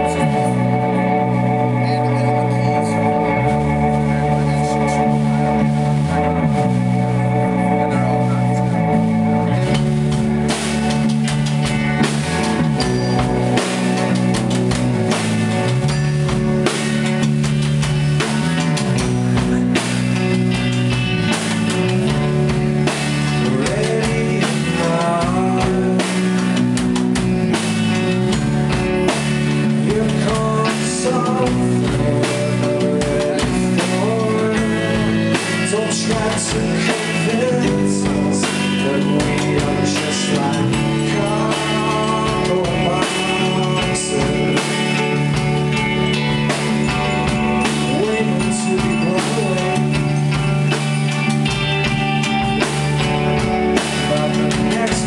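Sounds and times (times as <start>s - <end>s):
rock band playing: 0.0s - 55.0s
sliding guitar notes: 0.0s - 55.0s.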